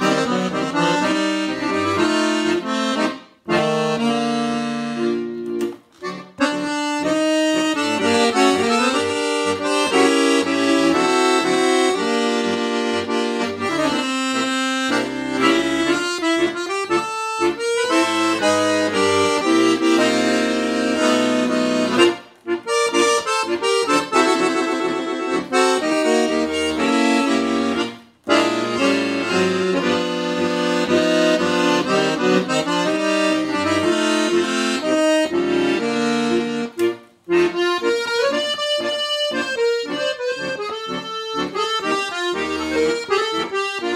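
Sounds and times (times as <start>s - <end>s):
accordion playing a tune: 0.0s - 43.9s.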